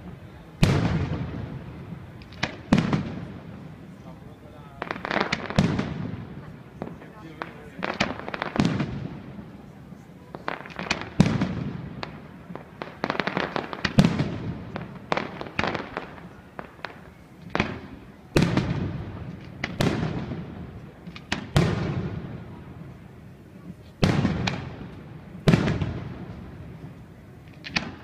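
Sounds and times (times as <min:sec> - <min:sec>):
fireworks bangs and crackles: 0:00.0 - 0:28.0
heavy firework booms: 0:00.5 - 0:03.8, 0:04.8 - 0:09.6, 0:10.4 - 0:23.0, 0:24.0 - 0:28.0.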